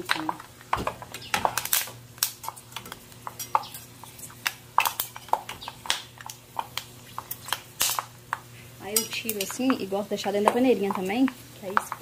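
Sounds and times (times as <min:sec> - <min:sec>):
pork skins frying in lard: 0:00.0 - 0:12.0.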